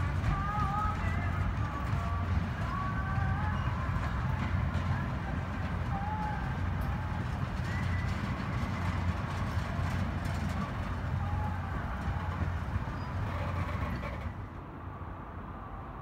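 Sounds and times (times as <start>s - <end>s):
steel wheels rumbling on rails: 0.0s - 14.9s.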